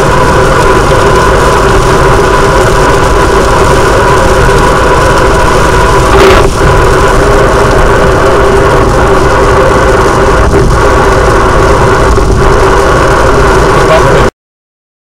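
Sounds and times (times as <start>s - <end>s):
car engine from inside cabin: 0.0s - 14.3s
road noise: 0.0s - 14.3s.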